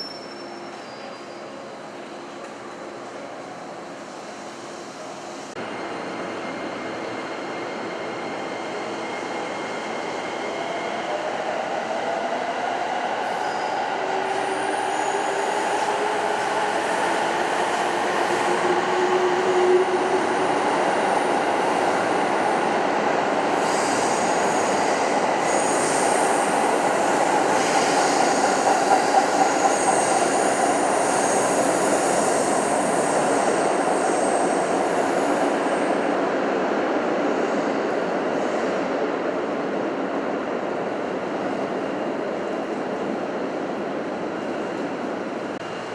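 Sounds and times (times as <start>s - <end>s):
electric train rumbling: 0.3s - 45.9s.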